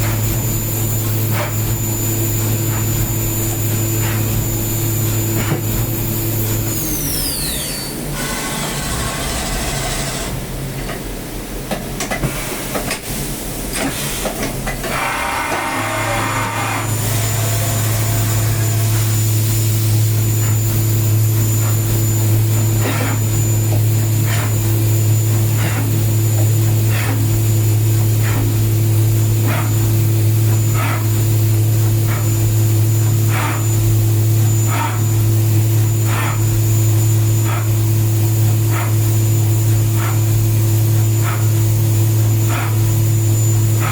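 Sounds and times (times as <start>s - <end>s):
milling machine hum and hiss: 0.0s - 43.9s.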